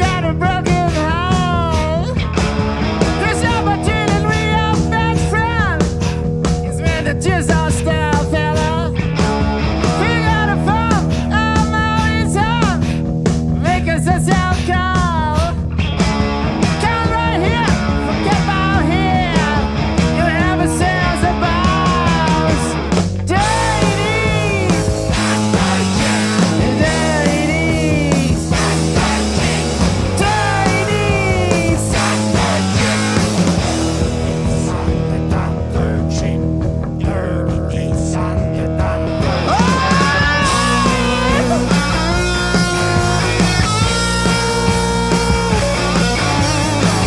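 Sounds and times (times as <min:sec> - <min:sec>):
hard rock band playing live: 0:00.0 - 0:47.0.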